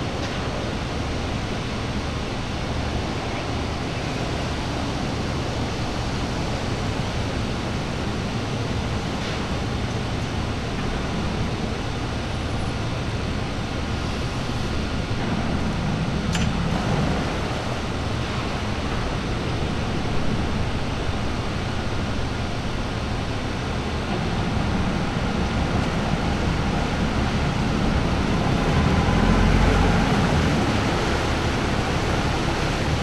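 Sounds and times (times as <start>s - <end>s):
boat engines rumbling: 0.0s - 33.0s.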